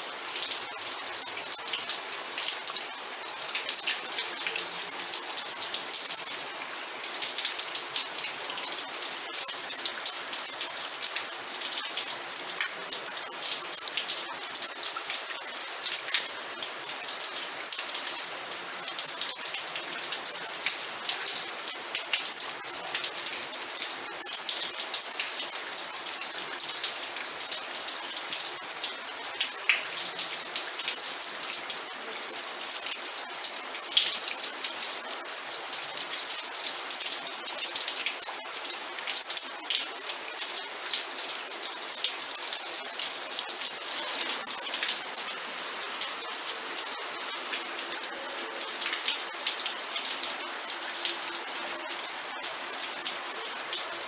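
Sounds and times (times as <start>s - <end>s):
rain pattering: 0.1s - 54.0s.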